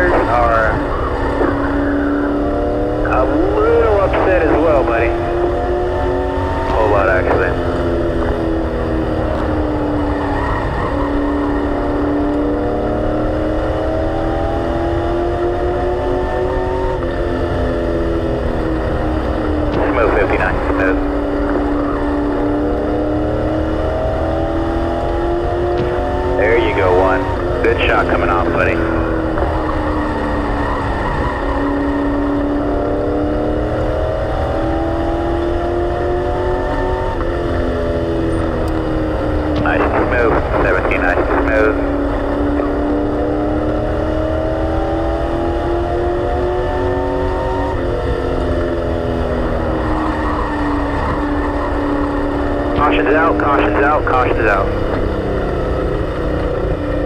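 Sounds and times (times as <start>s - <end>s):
low road rumble: 0.0s - 57.0s
race car engine: 0.0s - 57.0s.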